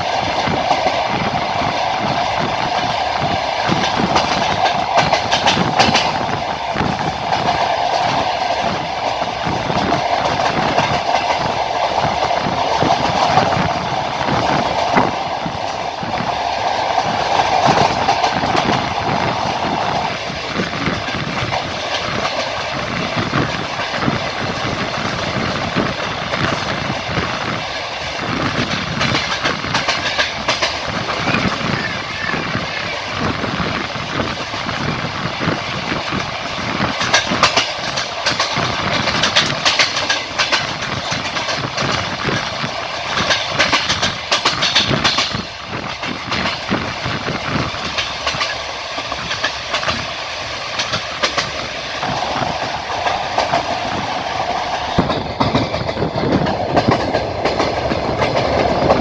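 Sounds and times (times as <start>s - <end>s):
train running rumble: 0.0s - 59.0s
train wheels clattering over rail joints: 0.0s - 59.0s.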